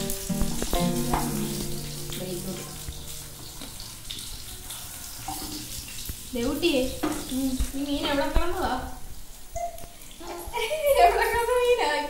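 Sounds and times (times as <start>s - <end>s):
fish sizzling in hot oil: 0.0s - 11.8s.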